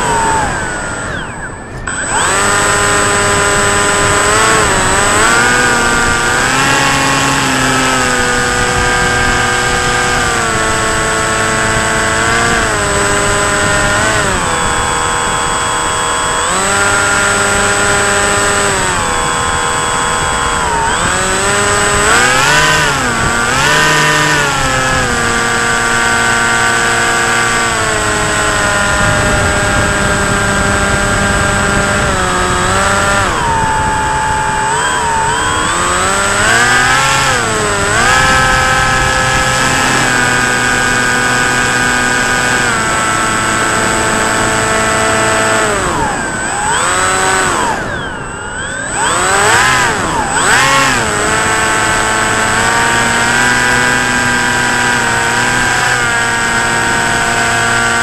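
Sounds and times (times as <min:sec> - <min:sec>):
electric motor and propeller whining: 0:00.0 - 0:58.0
wind on microphone: 0:00.0 - 0:58.0.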